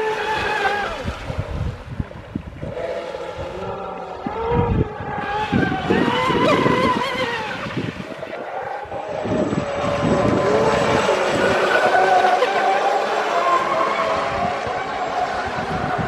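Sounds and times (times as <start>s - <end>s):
model boat motors whining: 0.0s - 16.0s
low rumbling gusts: 0.8s - 16.0s.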